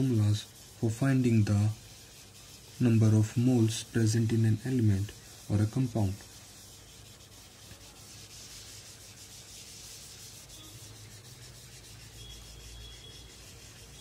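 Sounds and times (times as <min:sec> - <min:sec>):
pen scratching on paper: 0:01.8 - 0:14.0.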